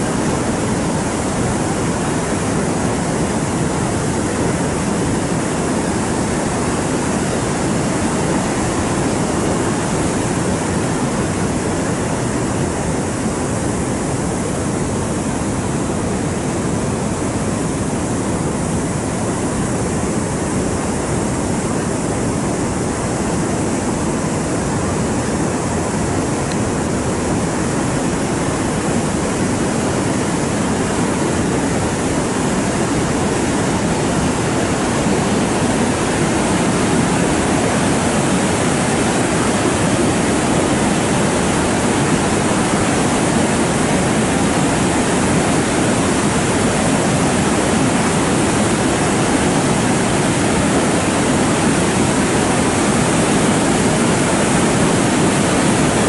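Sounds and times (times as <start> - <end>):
water rushing over weir: 0.0 - 56.0.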